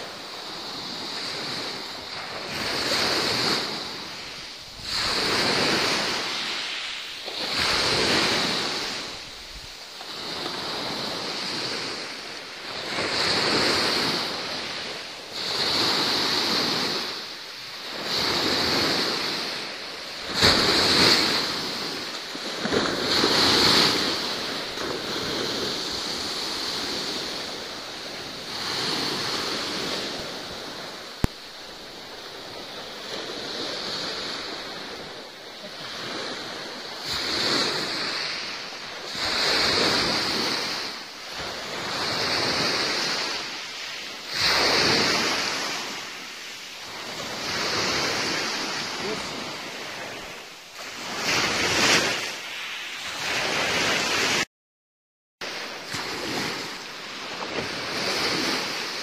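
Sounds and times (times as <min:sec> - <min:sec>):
sea waves washing in: 0:00.0 - 0:54.5, 0:55.4 - 0:59.0.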